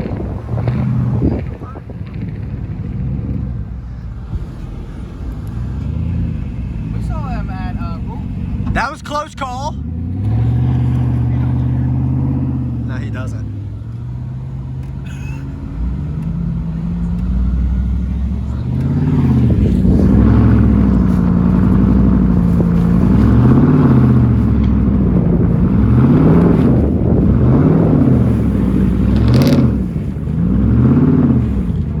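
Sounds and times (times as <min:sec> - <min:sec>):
vehicle engine revving: 0:00.0 - 0:32.0.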